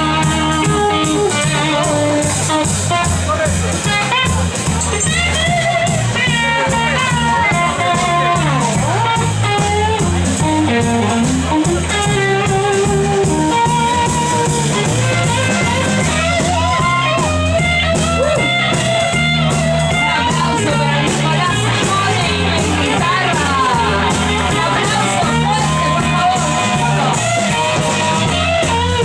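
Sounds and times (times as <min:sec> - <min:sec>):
bass guitar: 0:00.0 - 0:29.0
drum beat: 0:00.0 - 0:29.0
electric guitar lead: 0:00.0 - 0:29.0.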